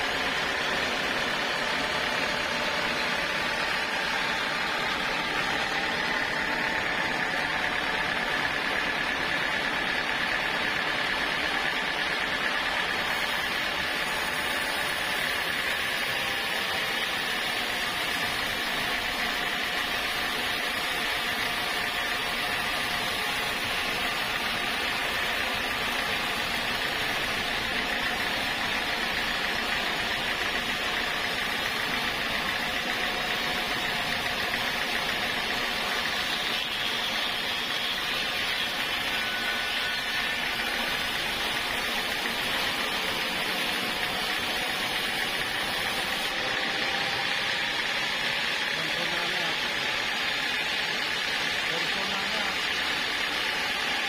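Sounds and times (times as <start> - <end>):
sawmill saw whining: 0.0 - 54.0.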